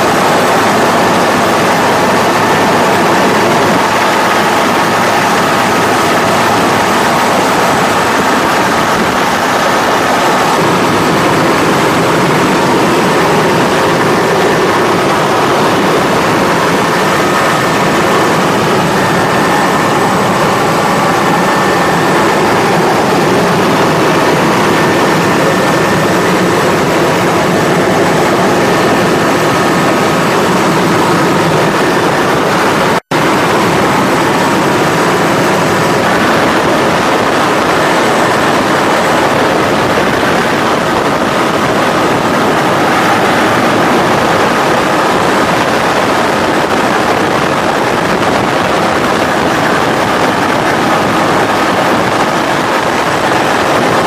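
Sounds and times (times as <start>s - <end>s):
helicopter engines and rotor: 0.0s - 54.0s.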